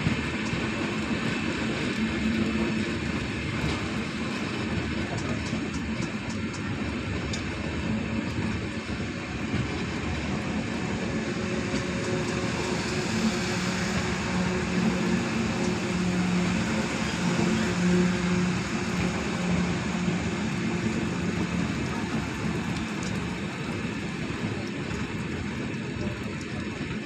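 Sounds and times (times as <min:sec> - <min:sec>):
moving vehicle rumble and hiss: 0:00.0 - 0:27.0.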